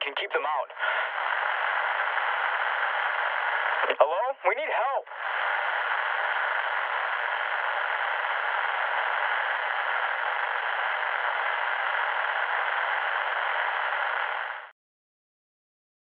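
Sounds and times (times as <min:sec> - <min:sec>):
radio static hiss: 0:00.0 - 0:14.7.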